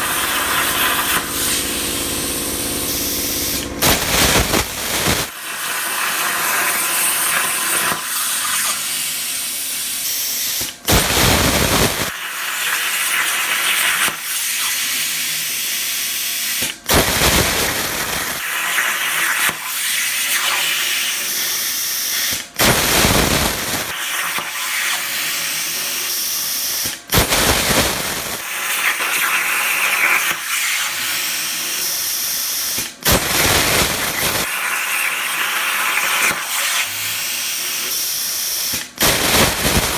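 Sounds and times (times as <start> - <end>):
plasma cutter arc hissing: 0.0 - 14.8, 15.5 - 39.9.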